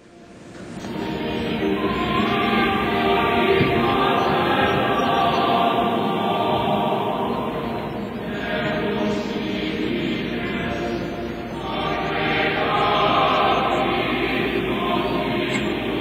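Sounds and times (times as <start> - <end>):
choir singing sustained notes: 0.0 - 16.0.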